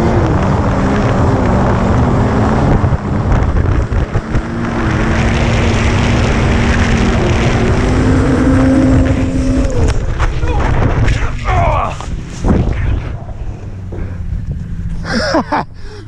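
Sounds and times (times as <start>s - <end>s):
wind buffeting microphone: 0.0s - 15.0s
snowmobile engine running: 0.0s - 16.0s.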